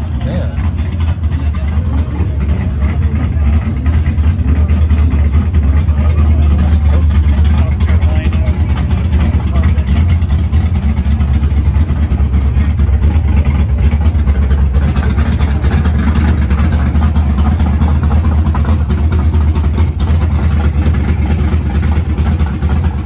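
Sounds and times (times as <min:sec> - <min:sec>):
vehicle engine running at low revs: 0:00.0 - 0:23.0.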